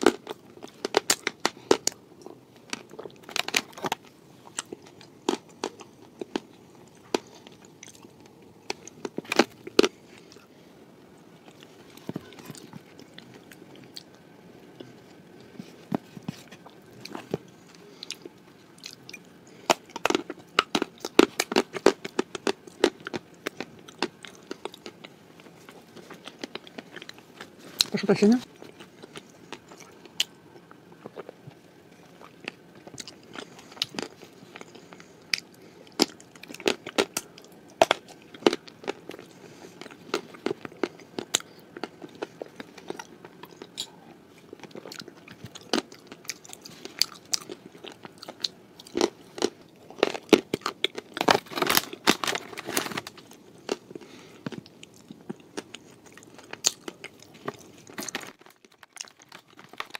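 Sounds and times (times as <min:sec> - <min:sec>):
chewing and crunching cookies: 0:00.0 - 0:59.9.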